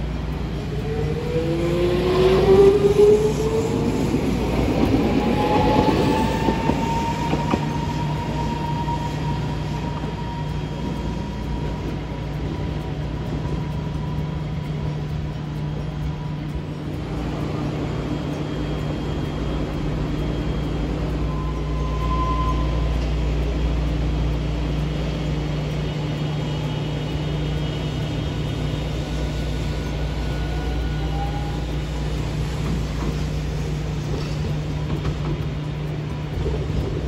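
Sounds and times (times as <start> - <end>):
tram high whines: 0.0 - 37.0
tram hum and rumble: 0.0 - 37.0.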